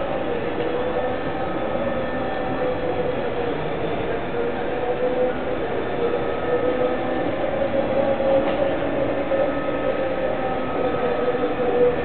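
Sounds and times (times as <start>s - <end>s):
toy trains humming on track: 0.0s - 12.0s.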